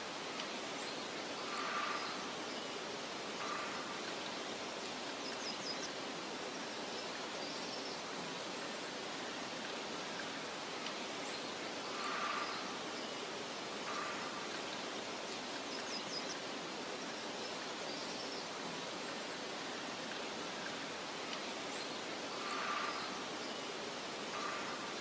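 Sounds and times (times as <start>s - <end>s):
wind through grass: 0.0s - 25.0s.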